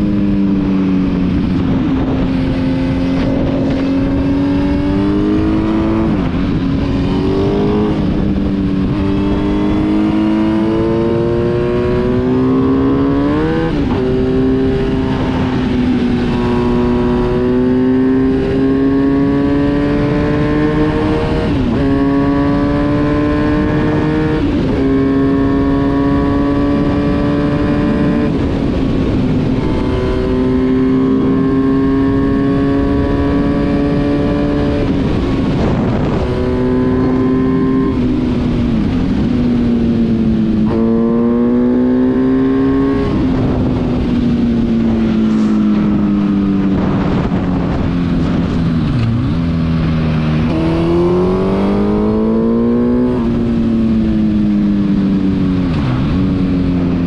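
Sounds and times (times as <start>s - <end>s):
motorcycle engine revving high: 0.0s - 57.0s.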